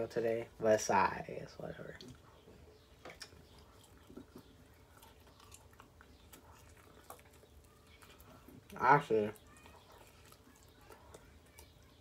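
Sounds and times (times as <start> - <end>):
chewing food: 1.8 - 12.0.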